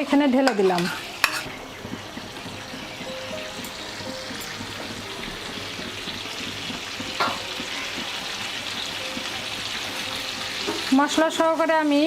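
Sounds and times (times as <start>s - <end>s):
paste sizzling in a pan: 0.0s - 12.0s.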